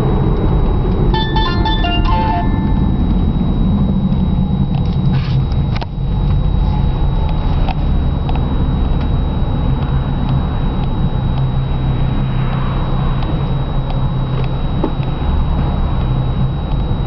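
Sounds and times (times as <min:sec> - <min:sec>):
low engine and road rumble: 0:00.0 - 0:17.0.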